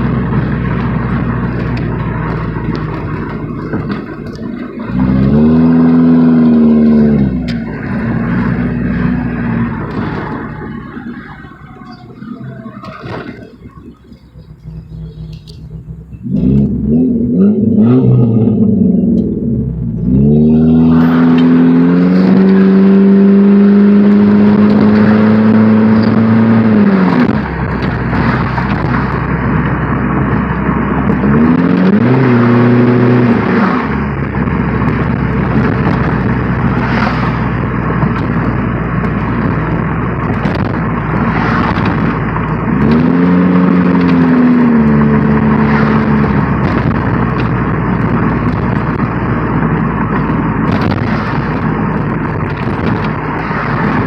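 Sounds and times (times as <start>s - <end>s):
car engine revving hard: 0.0s - 10.9s, 16.2s - 54.0s
exhaust crackles and pops: 0.0s - 54.0s.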